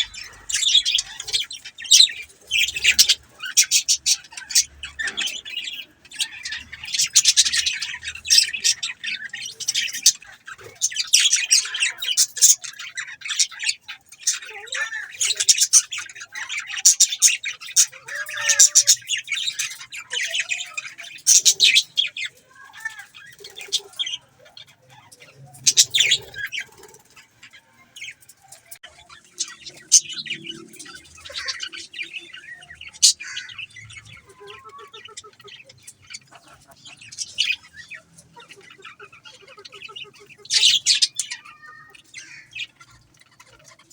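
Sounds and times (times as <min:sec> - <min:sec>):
budgerigars chattering and chirping: 0:00.0 - 0:43.9.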